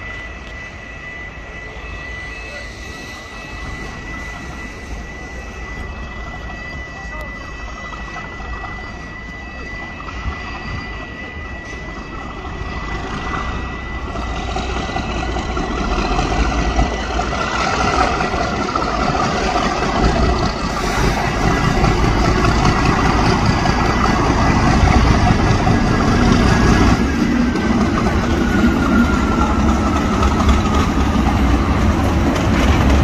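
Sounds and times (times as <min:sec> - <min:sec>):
diesel locomotive engine: 0:00.0 - 0:33.0.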